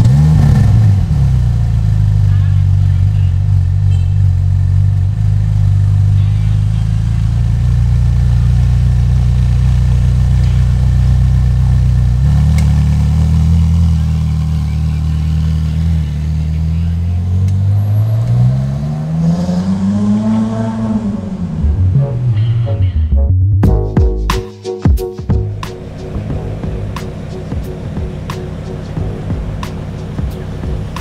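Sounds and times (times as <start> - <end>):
car pulling away: 0.0 - 23.0, 25.4 - 31.0
car engine idling: 0.0 - 23.1, 23.7 - 31.0.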